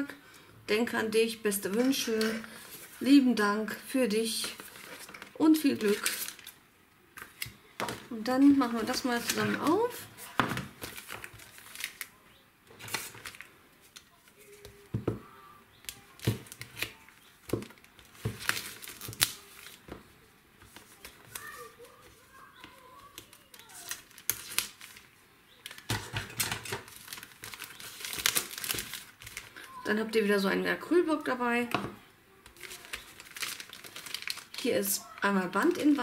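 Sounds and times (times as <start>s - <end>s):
plastic wrapping crinkling: 4.3s - 15.0s, 15.8s - 29.9s, 31.8s - 36.0s.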